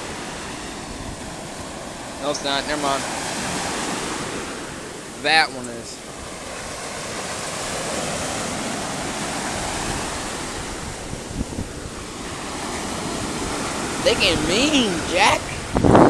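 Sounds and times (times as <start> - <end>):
wind on microphone: 0.0 - 5.2, 6.0 - 16.0
ocean wave breaking: 0.0 - 16.0.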